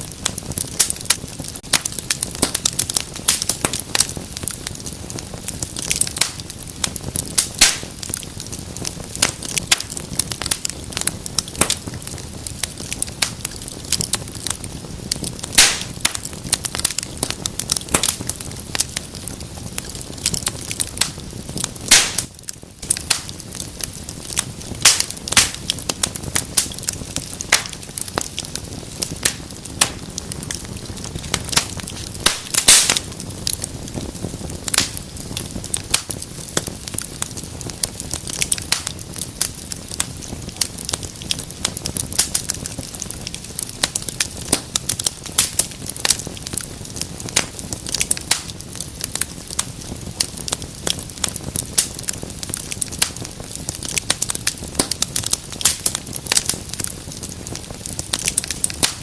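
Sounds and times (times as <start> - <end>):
low rush of flames: 0.0 - 59.0
wood fire popping and snapping: 0.0 - 59.0.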